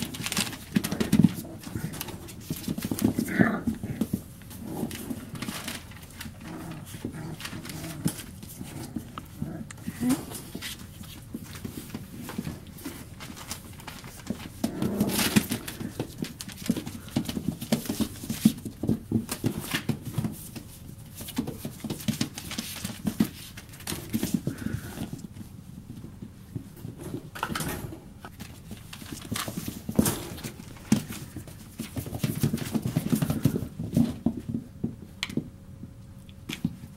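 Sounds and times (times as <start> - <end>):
puppy paws pattering: 0.0 - 36.9.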